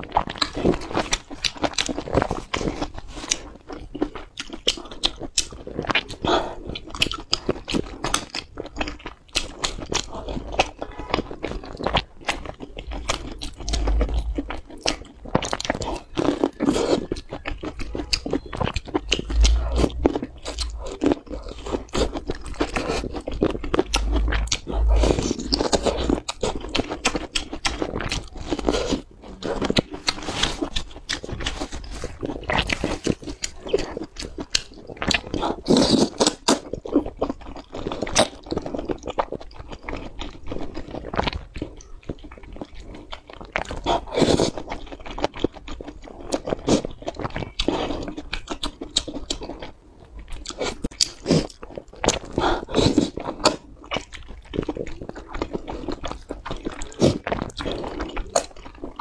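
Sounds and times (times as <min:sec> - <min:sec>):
chewing and slurping noodles: 0:00.0 - 0:59.0.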